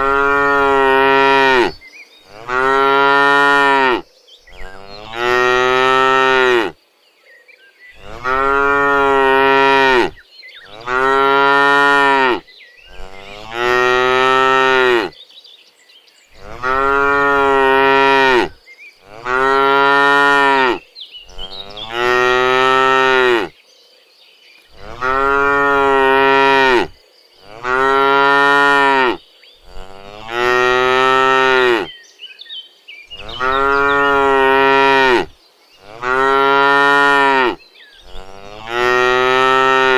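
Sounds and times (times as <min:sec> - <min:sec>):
cows mooing: 0:00.0 - 0:04.0, 0:04.6 - 0:06.8, 0:08.0 - 0:15.1, 0:16.4 - 0:23.5, 0:24.7 - 0:31.9, 0:33.2 - 0:39.9.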